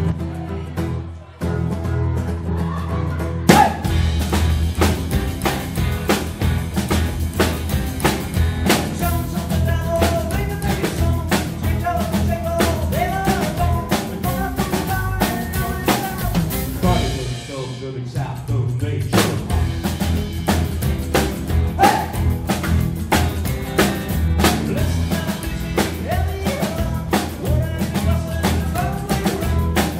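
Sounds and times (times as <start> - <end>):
upright bass: 0.0 - 29.9.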